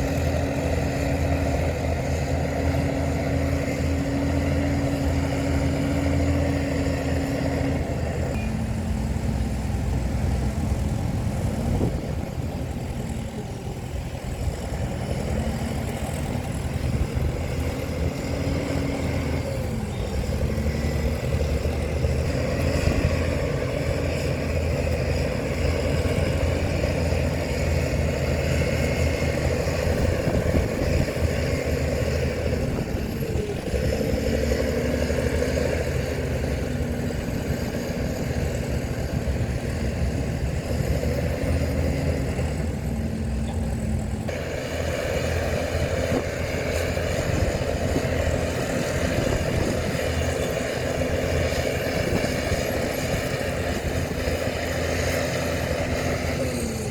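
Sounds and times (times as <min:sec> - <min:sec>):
heavy machinery diesel engines rumbling: 0:00.0 - 0:56.9.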